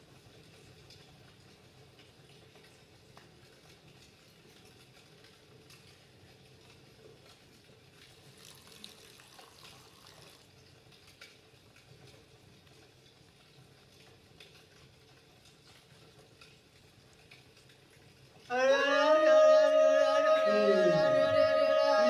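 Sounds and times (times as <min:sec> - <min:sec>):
small ticks and rustles: 0:00.0 - 0:18.5.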